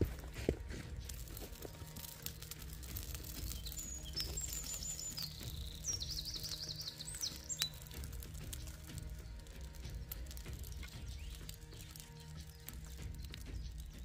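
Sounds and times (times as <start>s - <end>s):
low outdoor rumble: 0.0s - 14.0s
songbird singing: 0.0s - 14.0s.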